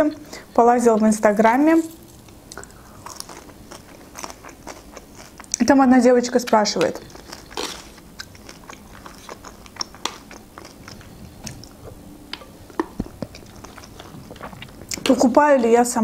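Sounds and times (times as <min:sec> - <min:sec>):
chewing food: 0:01.9 - 0:05.7, 0:06.4 - 0:15.7.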